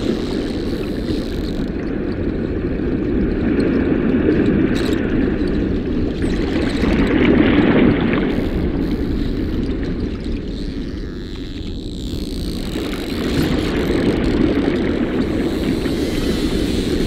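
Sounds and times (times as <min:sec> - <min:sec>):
underwater rushing rumble: 0:00.0 - 0:17.0.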